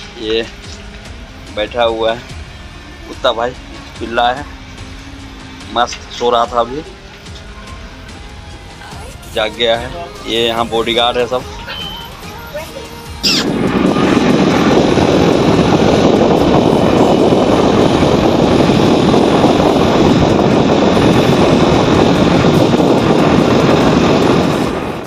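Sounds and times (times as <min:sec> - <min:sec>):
vehicle noise: 0:00.0 - 0:25.0
wind buffeting microphone: 0:00.0 - 0:25.0.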